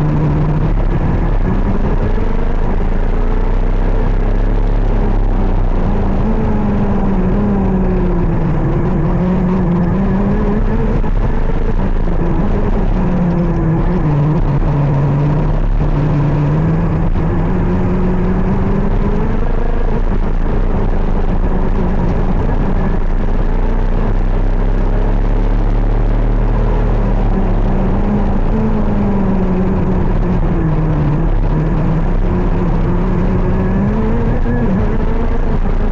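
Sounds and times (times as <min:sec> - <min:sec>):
two-stroke kart engine revving: 0:00.0 - 0:35.9.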